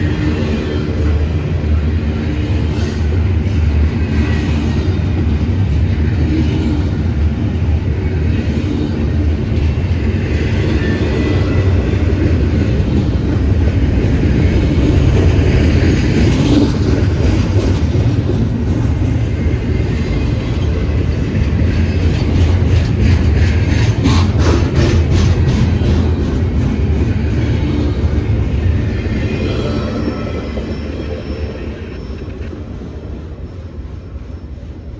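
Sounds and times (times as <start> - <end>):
train cars rumbling on rails: 0.0 - 34.9.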